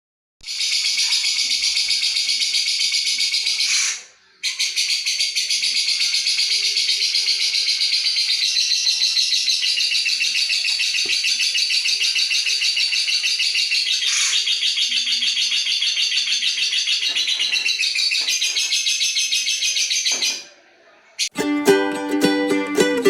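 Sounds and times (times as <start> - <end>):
lovebird chattering: 0.4 - 20.4.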